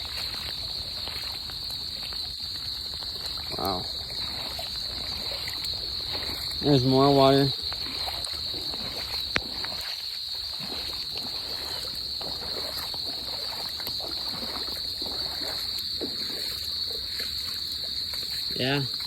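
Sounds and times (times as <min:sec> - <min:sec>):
frogs trilling chorus: 0:00.0 - 0:19.0
wading through water splashing: 0:00.0 - 0:19.0.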